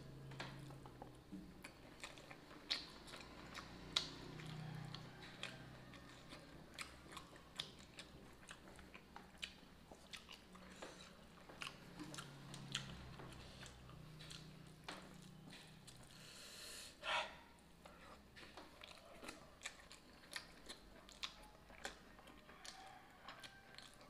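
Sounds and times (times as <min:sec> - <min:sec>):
chewing and lip smacks: 0:00.1 - 0:16.3, 0:17.2 - 0:24.0.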